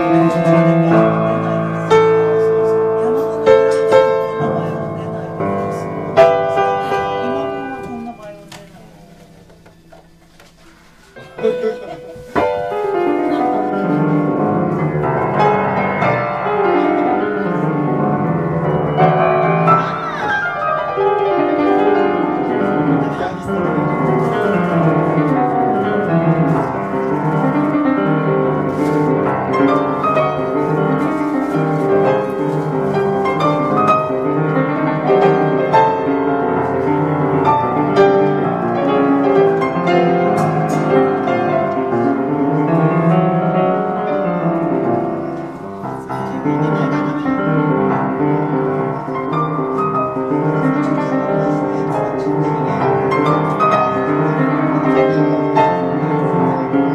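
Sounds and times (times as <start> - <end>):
upright piano playing: 0.0 - 56.9.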